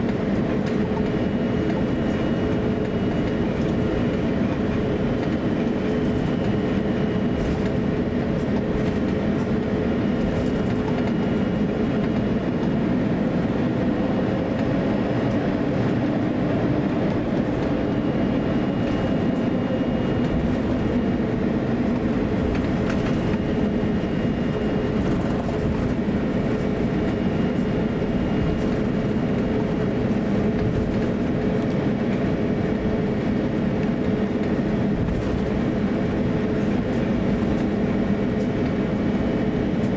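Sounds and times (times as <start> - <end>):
jet engines humming while taxiing: 0.0 - 39.9.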